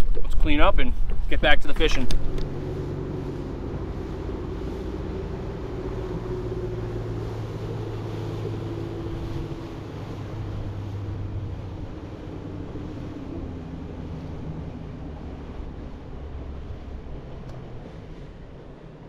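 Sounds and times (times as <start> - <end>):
boat motor droning: 0.0 - 19.0
water noise: 0.0 - 19.0
wind: 0.0 - 19.0.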